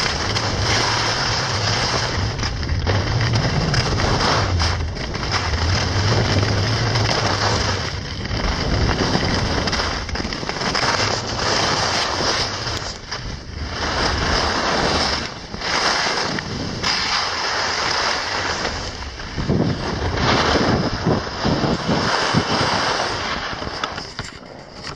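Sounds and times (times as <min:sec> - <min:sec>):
skis scraping on snow: 0:00.0 - 0:24.9
wind rushing over microphone: 0:00.0 - 0:24.9.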